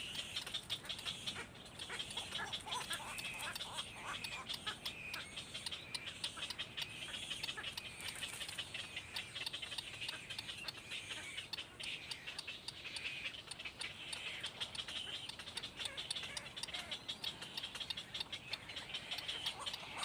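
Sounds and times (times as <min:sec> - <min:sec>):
sharp ticks: 0:00.0 - 0:20.0
small birds chirping: 0:00.0 - 0:20.0.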